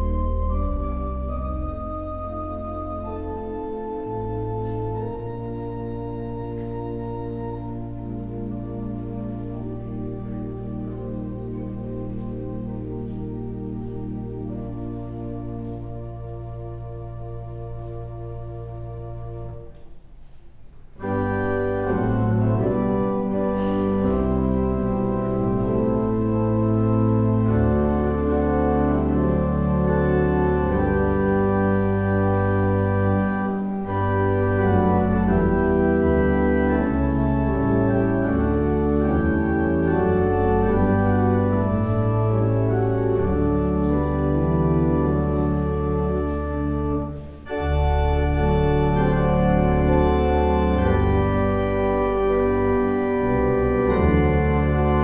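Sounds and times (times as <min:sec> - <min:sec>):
slow organ chords: 0:00.0 - 0:20.4, 0:21.0 - 0:55.0.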